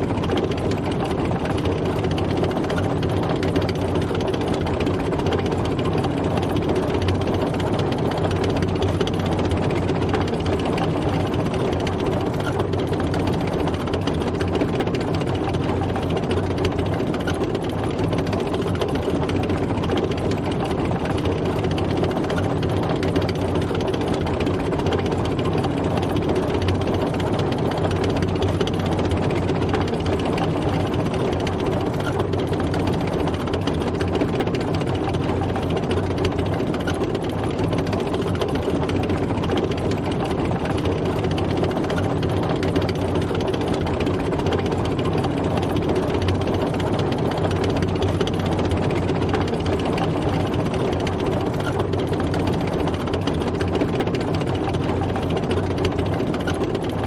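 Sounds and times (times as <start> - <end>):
tank engine humming: 0.0 - 57.0.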